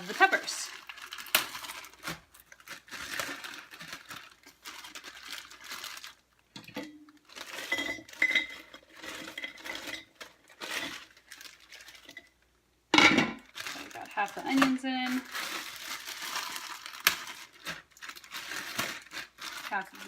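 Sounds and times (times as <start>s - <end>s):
frozen onions clattering into crock: 0.0s - 12.4s, 13.0s - 20.0s.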